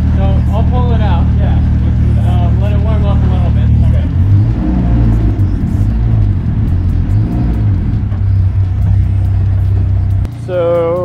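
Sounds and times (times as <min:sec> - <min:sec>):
car engine running loudly: 0:00.0 - 0:11.0.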